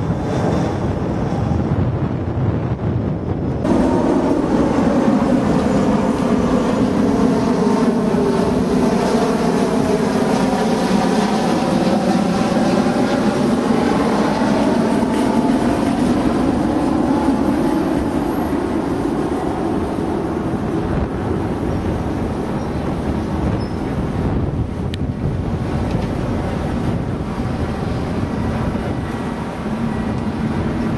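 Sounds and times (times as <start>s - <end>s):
jet airliner engines on approach: 0.0s - 30.9s.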